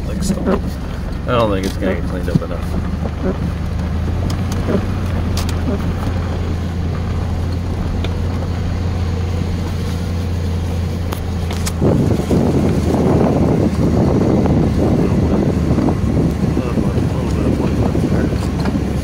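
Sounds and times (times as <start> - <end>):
pickup truck engine humming: 0.0 - 19.0
rough rushing noise: 0.0 - 19.0.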